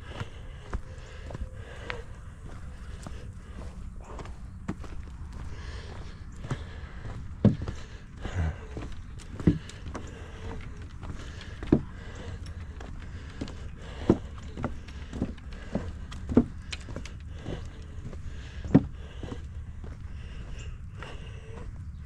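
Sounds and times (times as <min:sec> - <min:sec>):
footsteps on a trail: 0:00.0 - 0:22.0.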